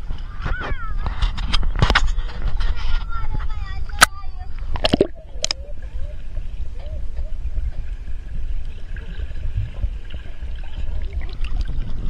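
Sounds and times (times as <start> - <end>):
underwater rumble of water: 0.0 - 12.0.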